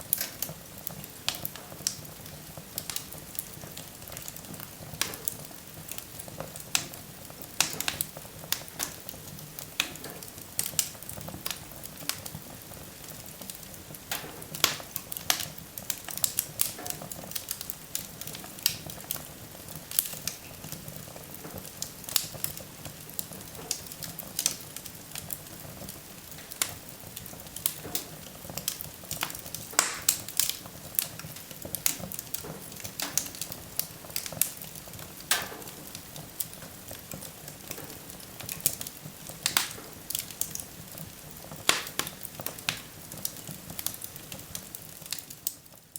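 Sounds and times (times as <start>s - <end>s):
low rumble of burning logs: 0.0s - 45.9s
wood fire crackling and popping: 0.0s - 45.9s.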